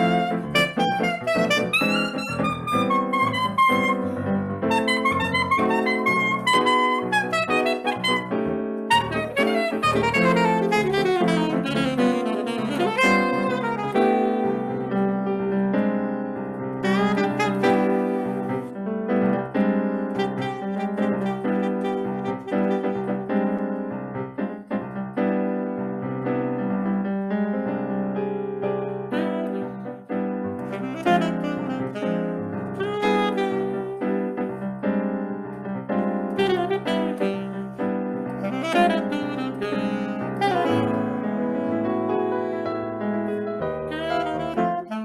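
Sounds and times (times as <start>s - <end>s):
saxophone melody: 0.0s - 23.9s, 28.7s - 34.7s, 36.1s - 45.0s
piano accompaniment: 0.0s - 45.0s.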